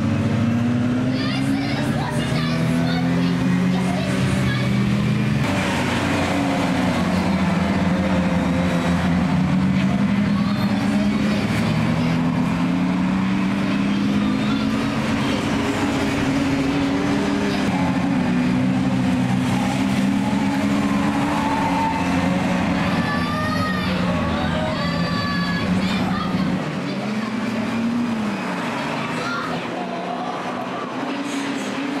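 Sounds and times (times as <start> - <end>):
race car engines droning: 0.0 - 32.0.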